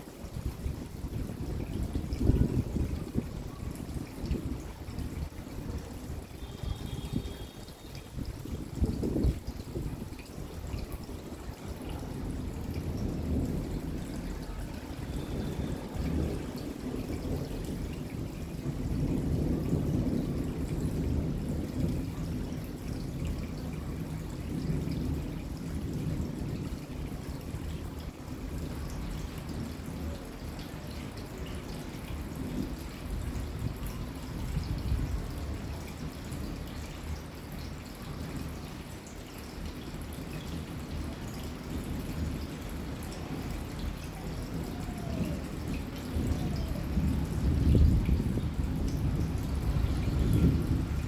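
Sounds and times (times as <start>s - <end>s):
steady rain: 0.0s - 51.0s
water dripping and trickling: 0.0s - 51.0s
low thunder rumbles: 0.3s - 7.4s, 8.0s - 37.2s, 39.6s - 51.0s.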